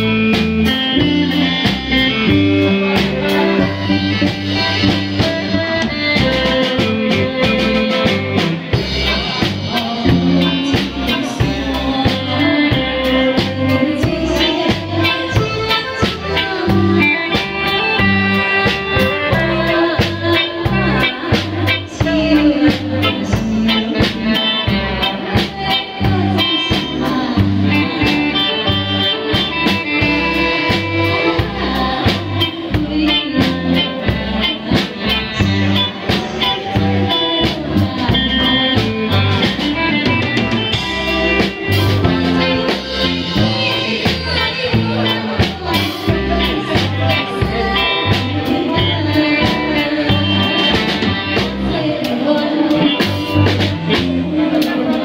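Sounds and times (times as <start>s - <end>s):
live band playing: 0.0s - 55.0s
woman singing into microphone: 0.0s - 55.0s.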